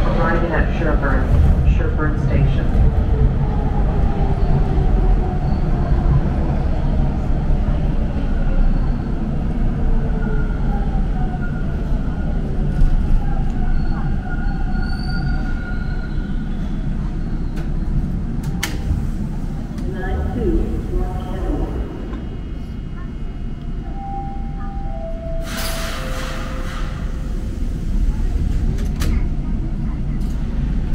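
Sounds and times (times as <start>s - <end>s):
train wheels rumbling on rail: 0.0s - 23.9s, 25.2s - 30.9s.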